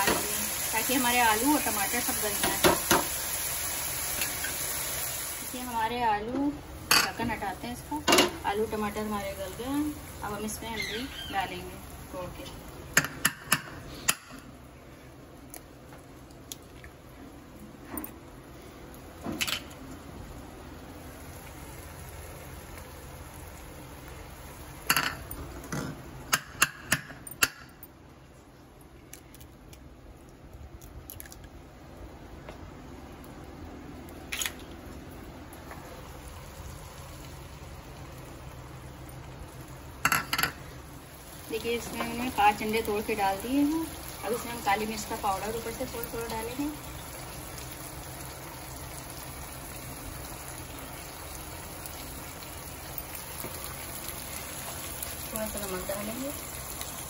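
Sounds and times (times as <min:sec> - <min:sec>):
eggs sizzling in a pan: 0:00.0 - 0:17.4, 0:18.4 - 0:27.6, 0:34.8 - 0:57.0.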